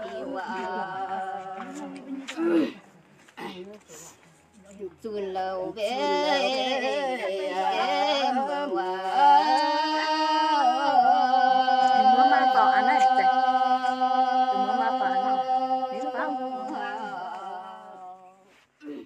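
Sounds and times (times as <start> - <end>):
women singing unaccompanied: 0.0 - 2.7, 5.0 - 18.5.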